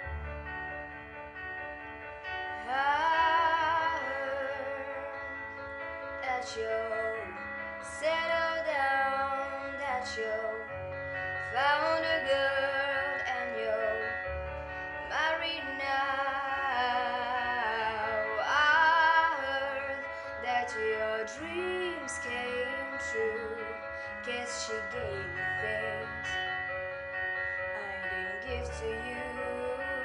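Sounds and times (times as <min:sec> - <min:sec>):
woman singing with vibrato: 0:02.6 - 0:26.5, 0:27.7 - 0:30.0.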